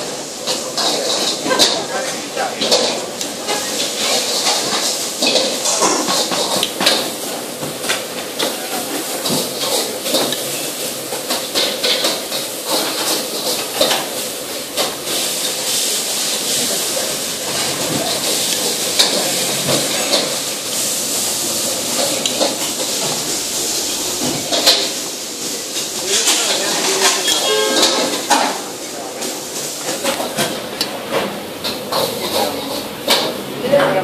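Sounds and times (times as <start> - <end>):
kitchen background hiss: 0.0 - 34.0.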